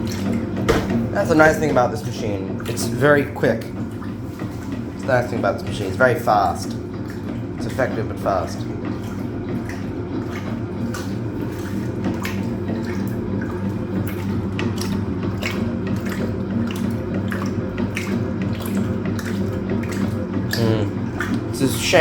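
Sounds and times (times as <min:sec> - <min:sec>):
washing machine motor hum: 0:00.0 - 0:22.0
water sloshing in drum: 0:00.0 - 0:22.0.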